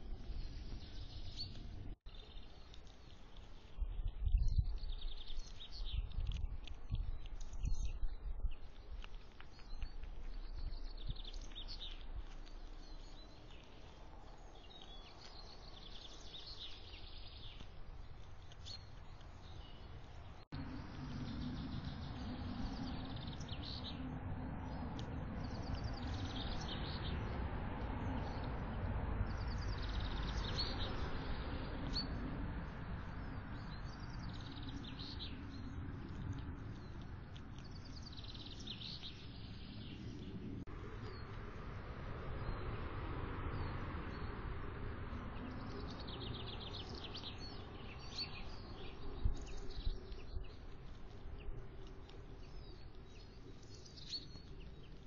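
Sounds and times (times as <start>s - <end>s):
low rumbling background: 0.0s - 55.0s
small birds chirping: 0.0s - 55.0s.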